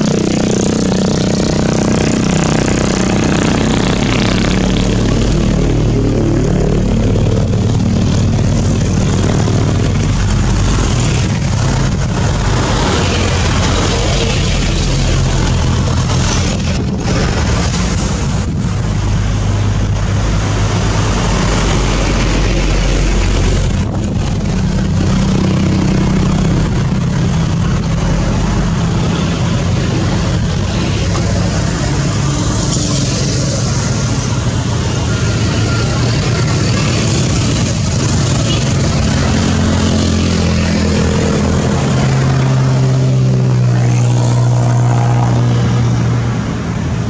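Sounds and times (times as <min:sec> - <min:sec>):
diesel truck engine running: 0:00.0 - 0:47.0
passing motorcycles and cars: 0:00.0 - 0:47.0.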